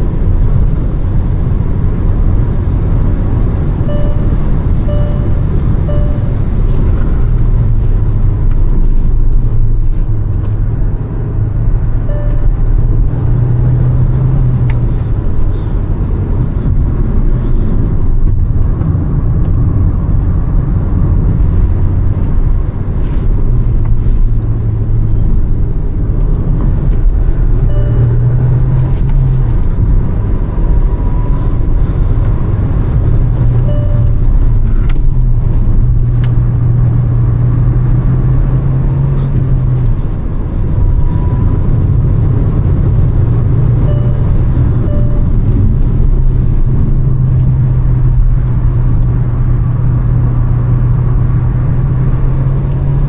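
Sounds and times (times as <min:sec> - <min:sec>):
road noise: 0:00.0 - 0:53.0.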